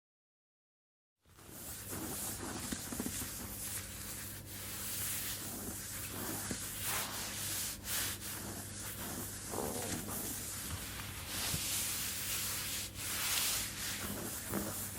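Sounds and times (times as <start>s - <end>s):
hands rubbing skin and fabric: 1.4s - 14.9s.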